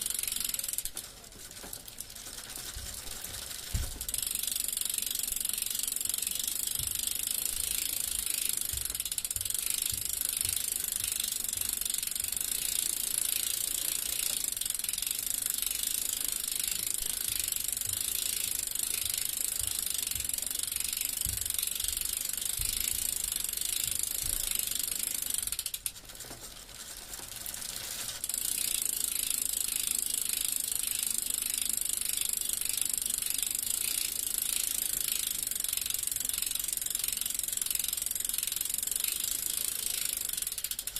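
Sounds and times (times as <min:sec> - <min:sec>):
bicycle freewheel clicking: 0:00.0 - 0:40.9.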